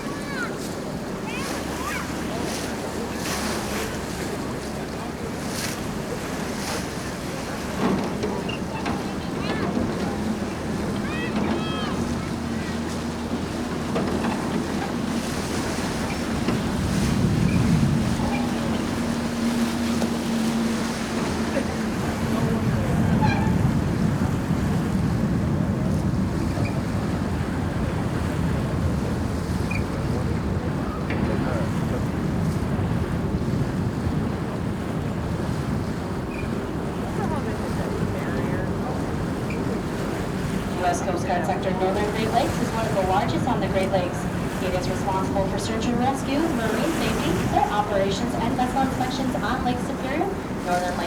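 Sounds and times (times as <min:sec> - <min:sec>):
boat engine humming: 0:00.0 - 0:51.0
water rushing past boat hull: 0:00.0 - 0:51.0
wind buffeting microphone: 0:00.0 - 0:51.0.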